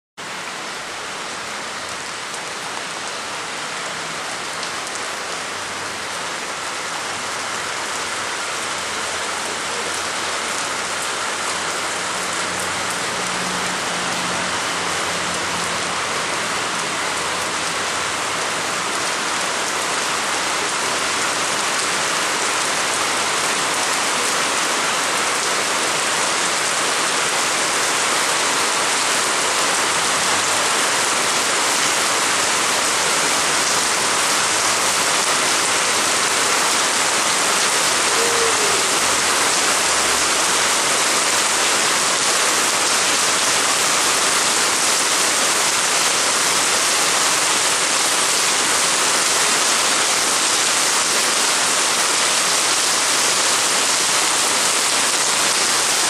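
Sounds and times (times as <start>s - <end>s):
heavy rain pouring: 0.2s - 56.0s.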